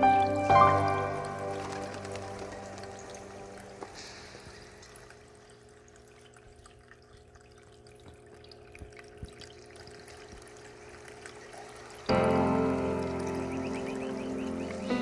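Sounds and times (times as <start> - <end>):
small waterfall trickling: 0.0 - 15.0
water drips: 0.0 - 15.0.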